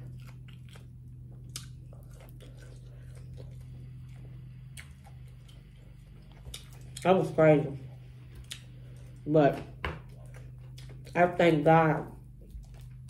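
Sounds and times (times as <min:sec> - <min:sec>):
chewing: 0:00.0 - 0:07.1, 0:07.8 - 0:09.2, 0:10.0 - 0:11.4, 0:12.2 - 0:13.0
steady low hum: 0:00.0 - 0:13.0.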